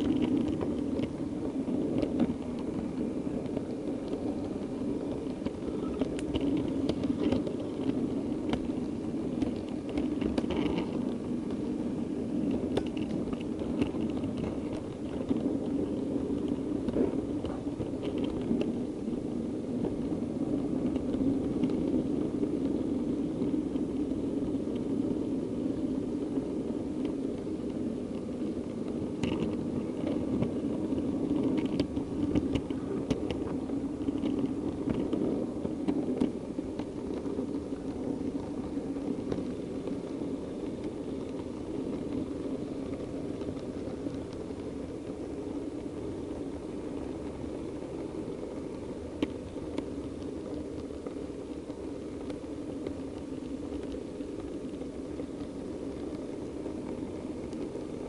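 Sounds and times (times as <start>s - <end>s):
wheels clicking over rail joints: 0.0s - 58.0s.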